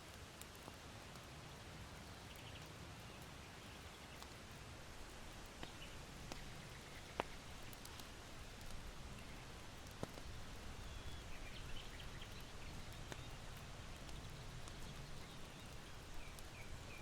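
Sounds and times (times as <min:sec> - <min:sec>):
small birds chirping: 0:01.9 - 0:17.0.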